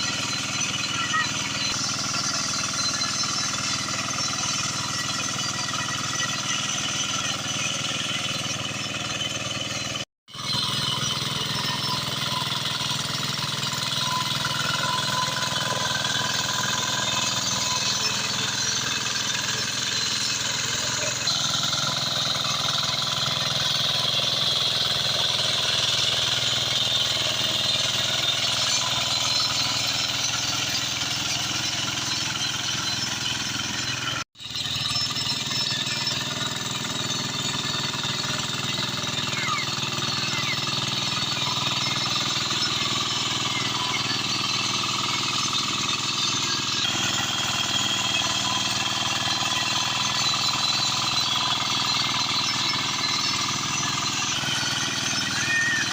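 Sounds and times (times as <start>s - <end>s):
hand tractor engine chugging: 0.0s - 55.9s.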